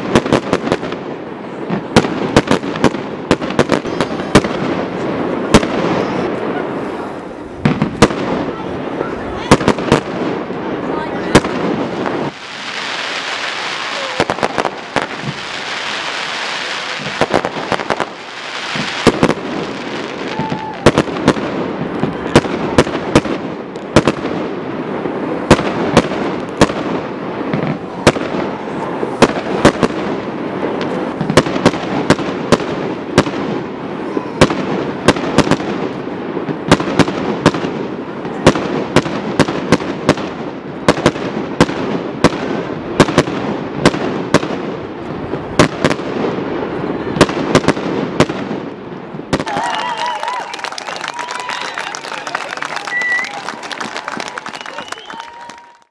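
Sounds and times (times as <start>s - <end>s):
fireworks hissing: 0.0s - 50.2s
fireworks bangs: 0.0s - 55.9s.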